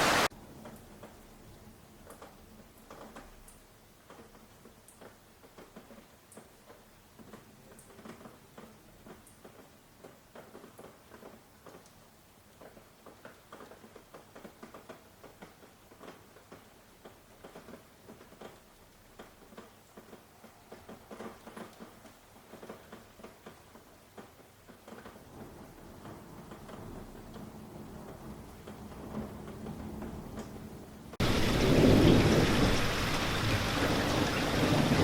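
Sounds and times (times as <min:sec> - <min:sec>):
faint rain pattering: 0:00.0 - 0:35.0.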